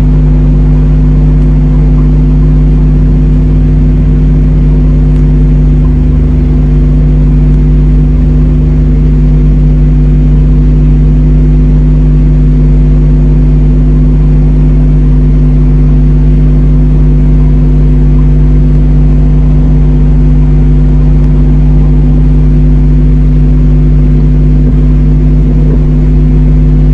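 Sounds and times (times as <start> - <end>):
electrical hum: 0.0 - 26.9.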